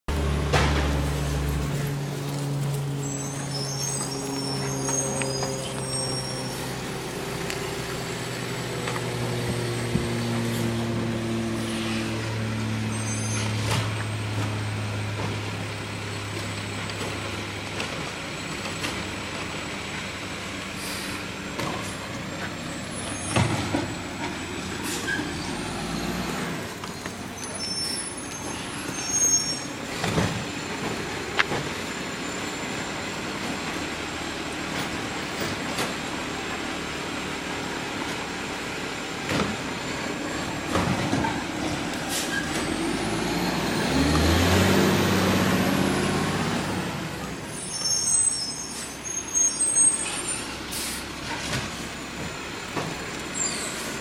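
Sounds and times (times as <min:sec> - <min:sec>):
garbage truck engine humming: 0:00.0 - 0:54.0.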